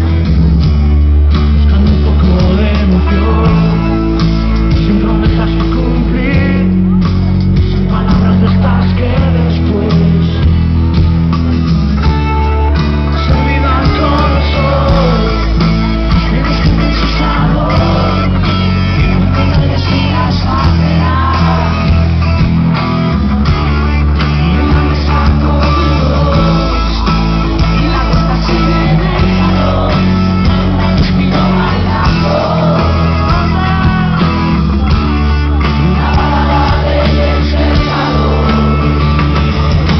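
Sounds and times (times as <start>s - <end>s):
rock band playing live: 0.0s - 39.9s
person singing lead vocal: 1.4s - 10.8s, 13.1s - 22.7s, 24.0s - 39.9s.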